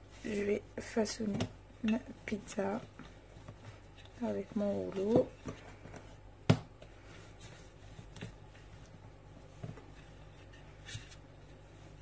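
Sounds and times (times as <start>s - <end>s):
low steady hum: 0.0s - 12.0s
rolling pin rubbing on dough: 0.0s - 12.0s.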